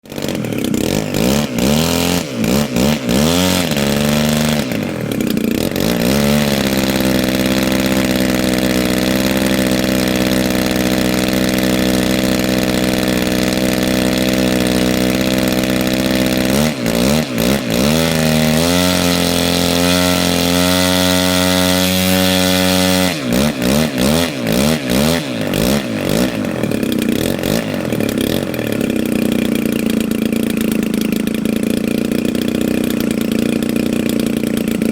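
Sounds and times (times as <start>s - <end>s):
model airplane engine running: 0.0s - 34.9s.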